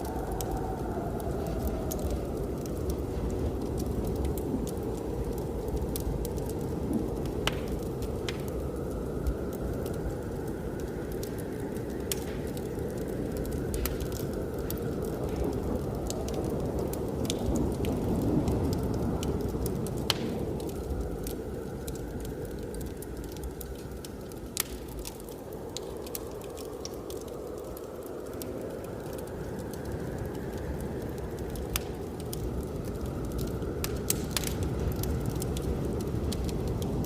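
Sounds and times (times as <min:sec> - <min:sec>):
blizzard wind rushing: 0:00.0 - 0:37.0
wood fire crackling and popping: 0:00.0 - 0:37.0.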